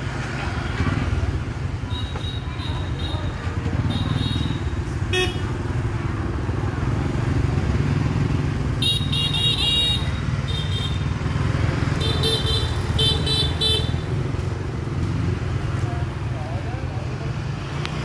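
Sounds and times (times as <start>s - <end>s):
motor scooters passing: 0.0s - 18.0s.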